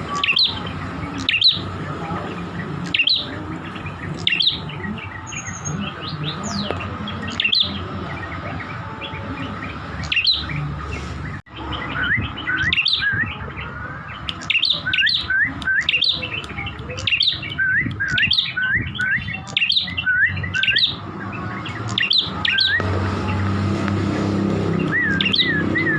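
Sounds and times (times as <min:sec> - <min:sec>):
small songbird chirping: 0:00.0 - 0:23.5, 0:24.6 - 0:25.9.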